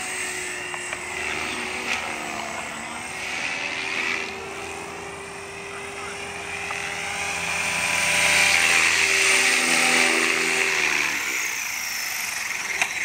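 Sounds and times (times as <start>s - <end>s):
rc helicopter motor and rotor whine: 0.0s - 13.0s.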